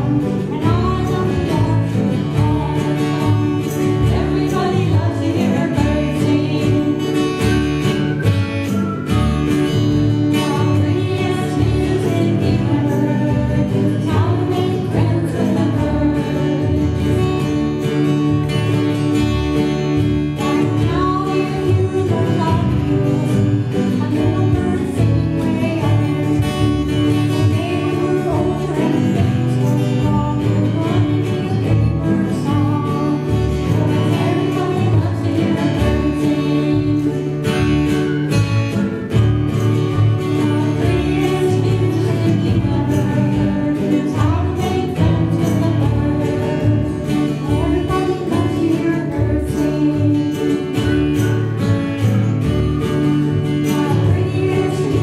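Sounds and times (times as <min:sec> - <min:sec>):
person singing: 0:00.0 - 0:09.1, 0:09.8 - 0:18.0, 0:20.2 - 0:38.2, 0:40.2 - 0:51.4, 0:53.3 - 0:55.0
plucked upright bass: 0:00.0 - 0:55.0
strummed acoustic guitar: 0:00.0 - 0:55.0.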